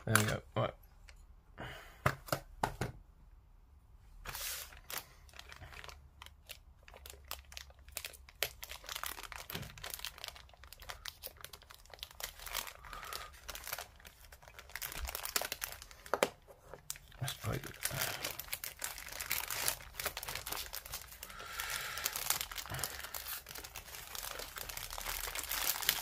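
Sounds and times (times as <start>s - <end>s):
plastic bag crinkling: 4.3s - 26.0s.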